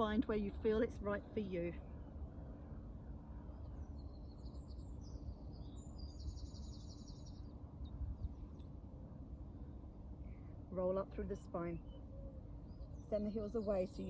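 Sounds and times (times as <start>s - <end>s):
low background rumble: 0.0s - 14.0s
songbird chirping and trilling: 0.0s - 14.0s.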